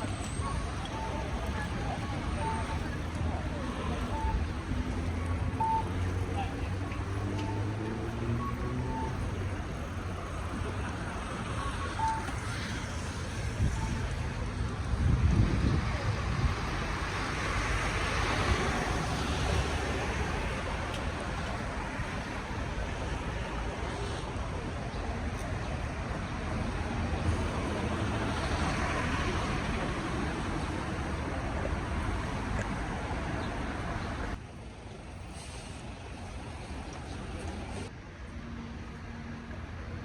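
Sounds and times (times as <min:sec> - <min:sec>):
city road traffic: 0:00.0 - 0:40.0
vehicles passing: 0:00.0 - 0:40.0.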